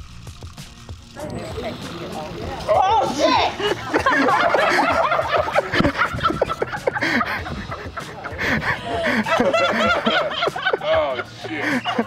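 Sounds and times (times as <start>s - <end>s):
people laughing and chattering: 1.2s - 12.0s.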